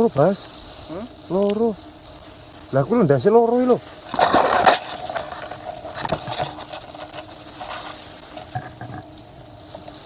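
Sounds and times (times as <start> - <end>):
dry grass rustling and crackling: 0.0 - 10.0.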